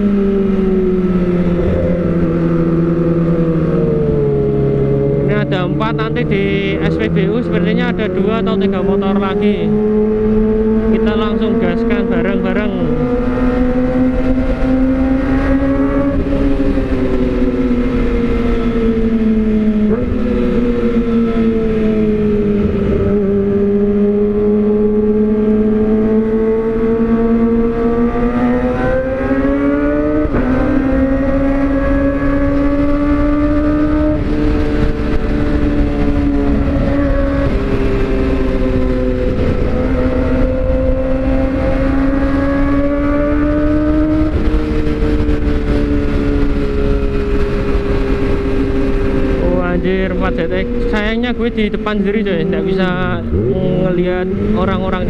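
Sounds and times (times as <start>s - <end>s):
motorcycle engine at high revs: 0.0s - 55.0s
wind rumble: 0.0s - 55.0s.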